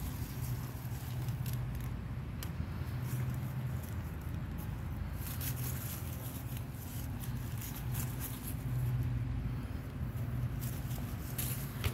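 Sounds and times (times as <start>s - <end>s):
dry leaves and grass rustling: 0.0s - 11.9s.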